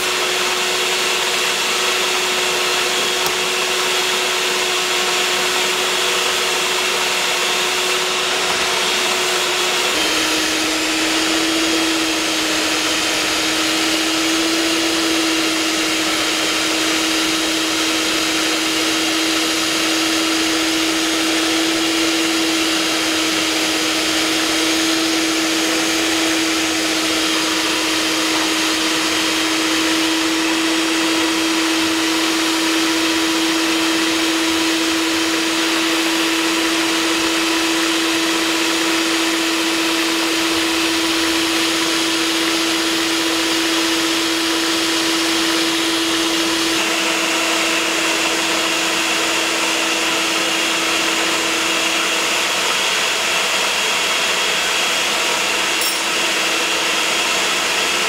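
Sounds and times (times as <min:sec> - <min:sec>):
stand mixer motor humming: 0:00.0 - 0:58.0.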